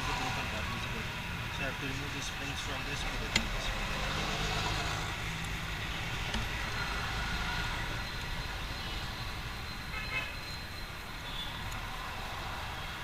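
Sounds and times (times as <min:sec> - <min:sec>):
vehicle traffic rumble: 0:00.0 - 0:13.0.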